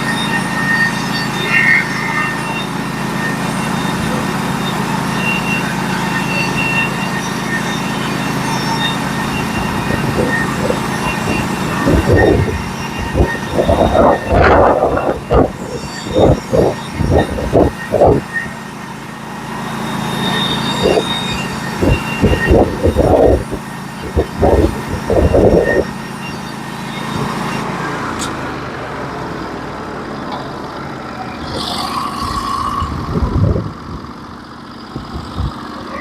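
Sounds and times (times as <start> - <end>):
sawmill engine running: 0.0 - 36.0.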